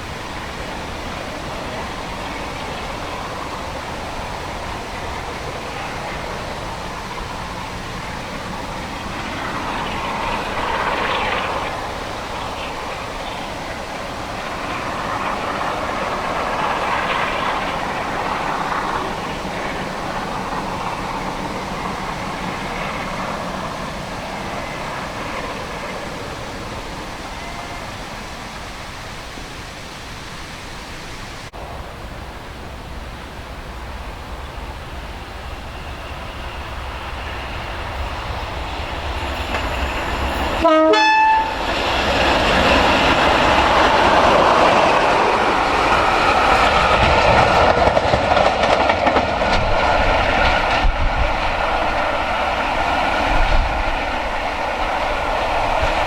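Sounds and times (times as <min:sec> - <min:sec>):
diesel train passing: 0:00.0 - 0:56.0.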